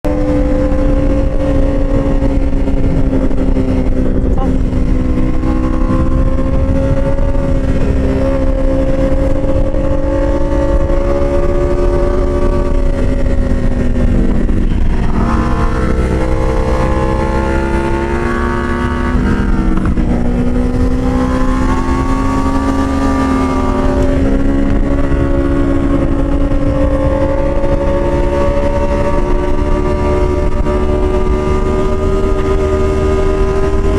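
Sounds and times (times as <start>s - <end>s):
low rumble: 0.0s - 33.9s
motorcycle engine at high revs: 0.0s - 33.9s.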